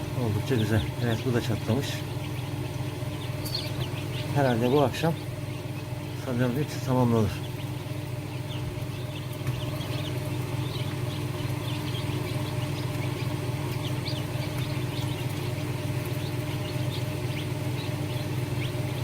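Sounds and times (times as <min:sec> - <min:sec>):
chicks peeping: 0:00.0 - 0:19.0
incubator machine hum: 0:00.0 - 0:19.0.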